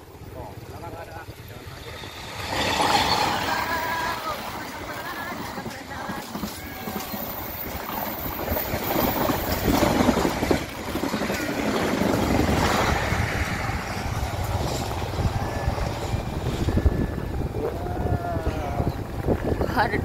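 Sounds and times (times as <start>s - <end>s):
passenger train passing: 0.0s - 20.0s.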